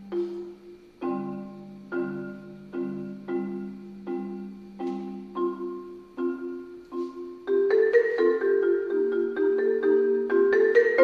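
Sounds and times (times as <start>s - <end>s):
marimba playing: 0.0s - 11.0s.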